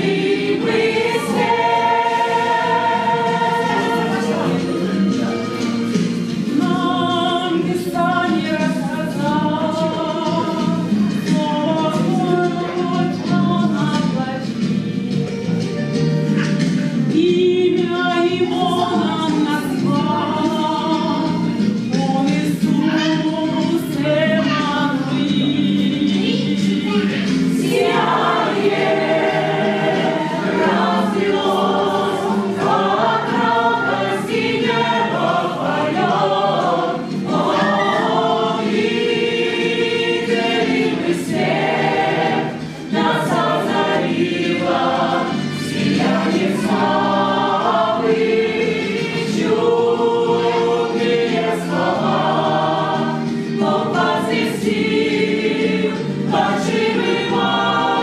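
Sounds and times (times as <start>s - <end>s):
choir singing a hymn: 0.0s - 15.0s, 15.9s - 58.0s.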